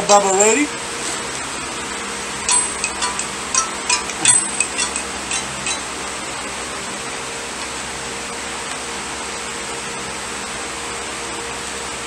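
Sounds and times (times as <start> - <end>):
room fan hiss and hum: 0.0 - 12.0.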